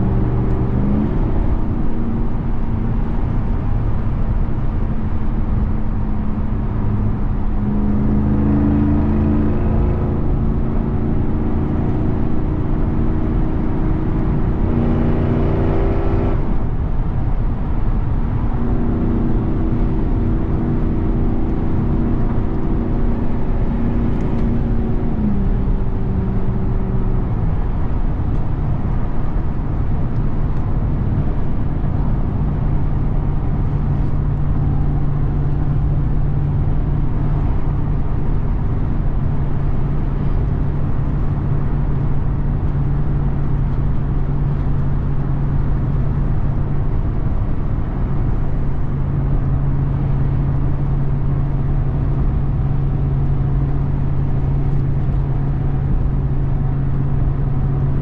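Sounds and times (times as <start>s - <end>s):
road rumble: 0.0s - 58.0s
truck engine cruising: 0.0s - 58.0s.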